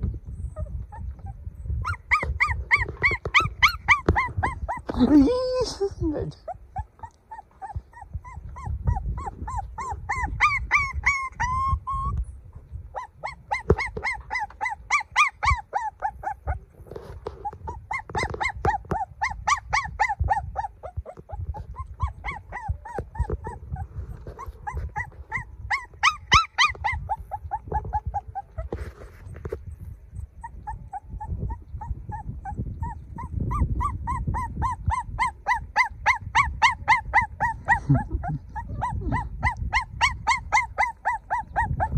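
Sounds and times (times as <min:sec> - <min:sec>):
puppy whimpering yelps: 0:00.3 - 0:28.8, 0:29.6 - 0:41.9.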